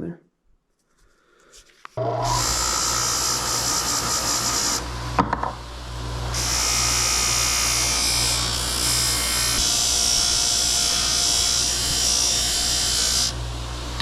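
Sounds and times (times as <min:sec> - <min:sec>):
power tool motor running: 0:02.0 - 0:14.0.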